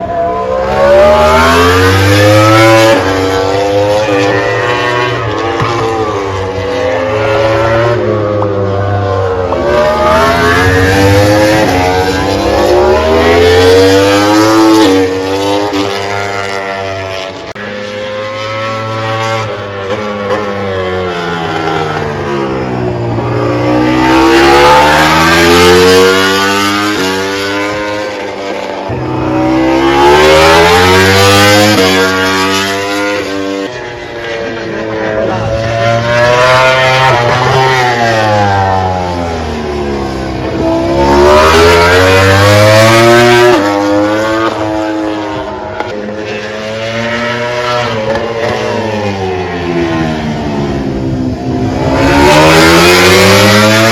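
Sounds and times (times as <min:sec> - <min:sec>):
racing motorcycles revving: 0:00.0 - 0:53.9.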